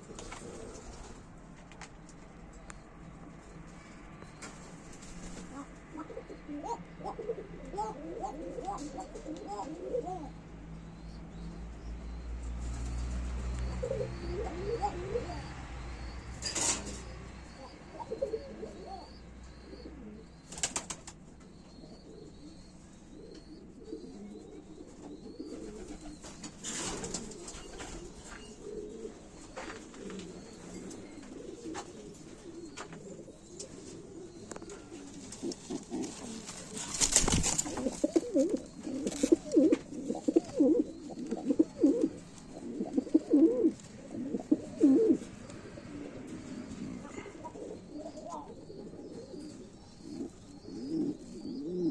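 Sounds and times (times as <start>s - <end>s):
pigeons cooing: 0.0s - 1.4s, 4.2s - 51.9s.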